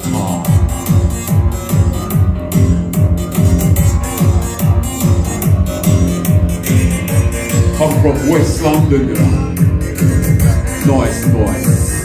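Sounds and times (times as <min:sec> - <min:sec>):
reggae through a sound system: 0:00.0 - 0:12.0.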